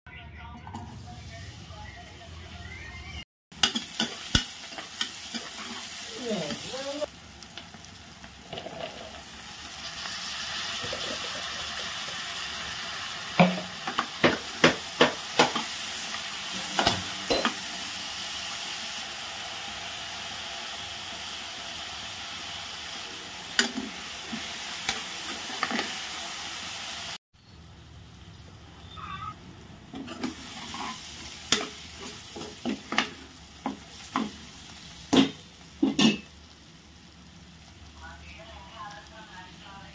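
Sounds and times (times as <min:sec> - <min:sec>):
vegetables sizzling in hot oil: 0:03.6 - 0:27.6, 0:29.6 - 0:39.9.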